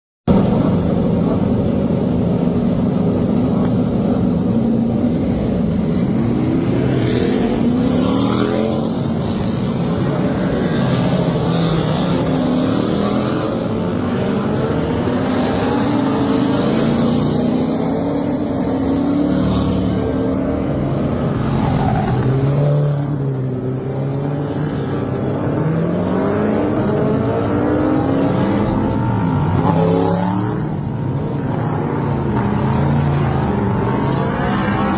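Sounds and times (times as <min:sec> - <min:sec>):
racing motorcycle engine revving: 0:02.7 - 0:34.9.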